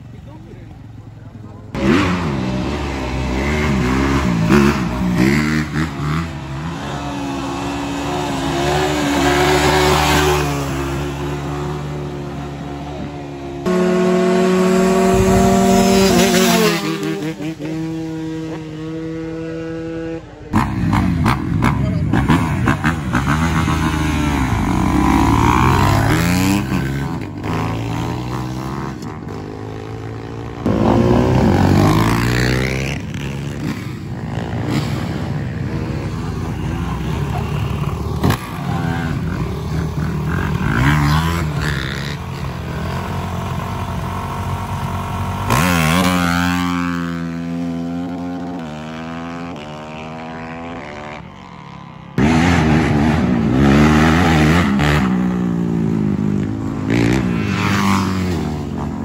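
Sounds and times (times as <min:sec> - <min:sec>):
dirt bikes and atvs revving by: 0:00.0 - 0:59.0.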